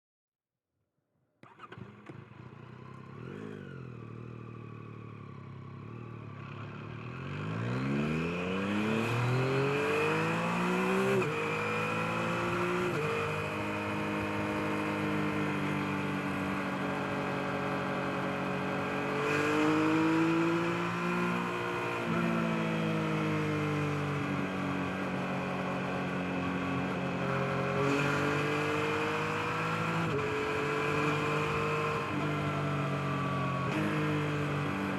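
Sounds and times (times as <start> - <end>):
motorcycle engine idling and revving: 1.4 - 34.9.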